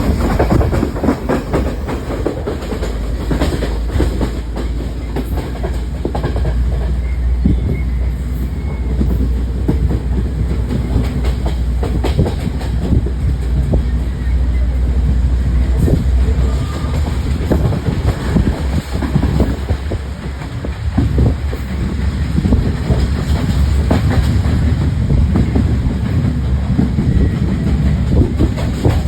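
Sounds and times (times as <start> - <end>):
moving vehicle rumble and clatter: 0.0 - 29.0.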